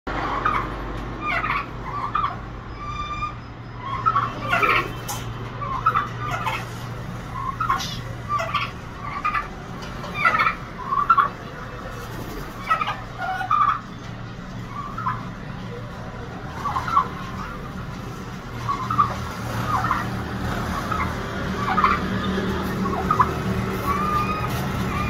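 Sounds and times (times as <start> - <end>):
birds squawking and chirping: 0.1 - 25.0.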